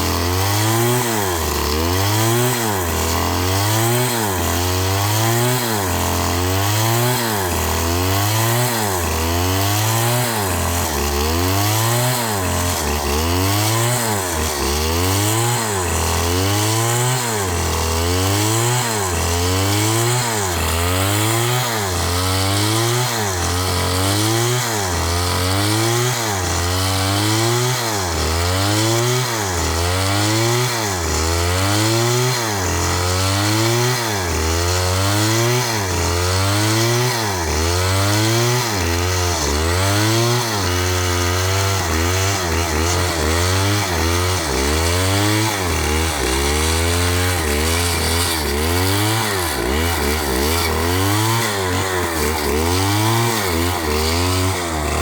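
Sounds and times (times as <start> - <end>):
chainsaw engine running: 0.0 - 55.0.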